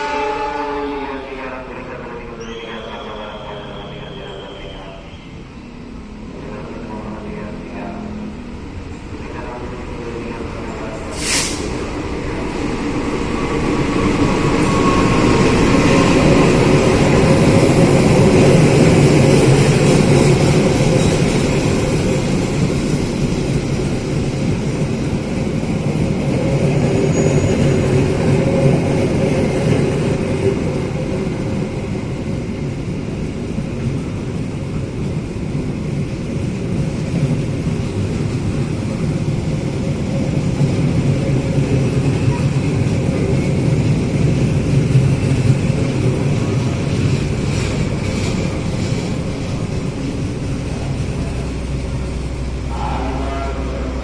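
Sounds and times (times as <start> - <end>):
train passing through station: 0.0 - 54.0.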